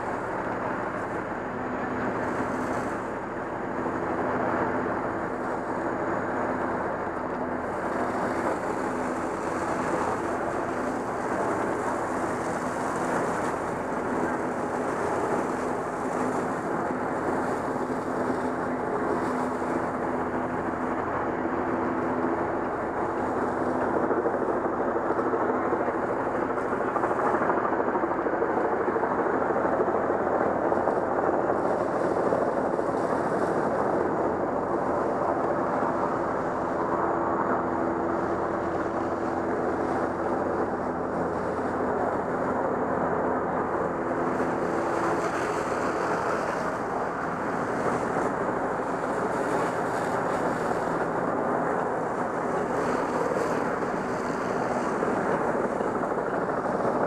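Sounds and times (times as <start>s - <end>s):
steady mechanical rumbling hum: 0.0s - 57.0s.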